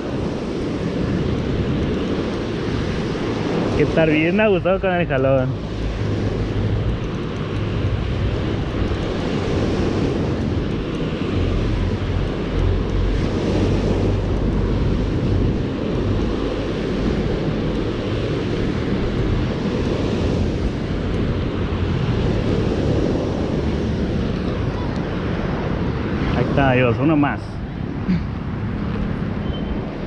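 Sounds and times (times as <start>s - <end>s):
wind buffeting microphone: 0.0s - 27.0s
surf washing on beach: 0.0s - 30.0s.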